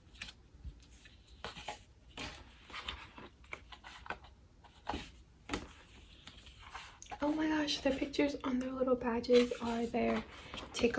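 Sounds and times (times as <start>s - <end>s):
paper prints rustling and tapping: 0.0s - 10.9s.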